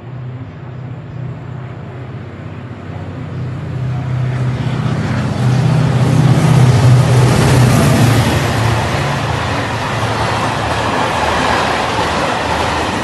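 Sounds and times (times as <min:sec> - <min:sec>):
locomotive low drone: 0:00.0 - 0:13.0
train wheel and rail noise: 0:00.0 - 0:13.0.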